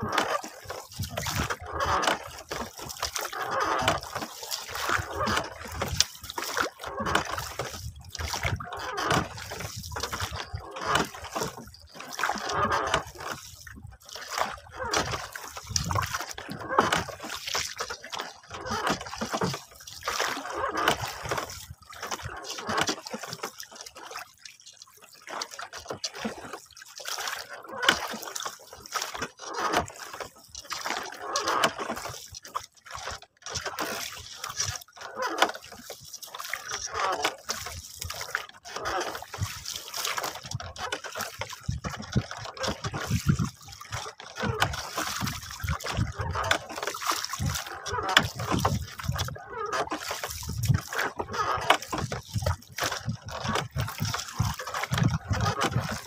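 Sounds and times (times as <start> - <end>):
water splashing against boat hull: 0.0 - 56.0.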